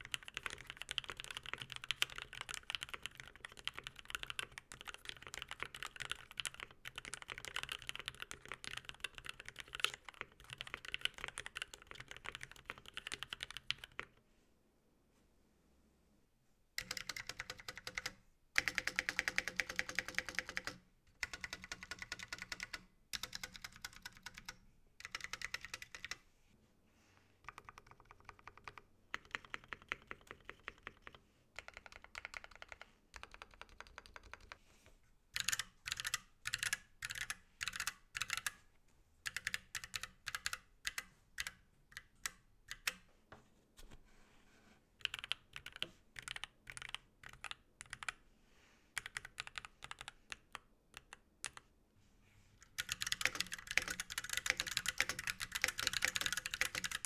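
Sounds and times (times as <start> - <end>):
typing on mechanical keyboard: 0.0 - 14.2, 16.8 - 26.2, 27.4 - 34.6, 35.4 - 38.6, 39.2 - 43.0, 45.0 - 48.2, 49.0 - 51.7, 52.6 - 57.0.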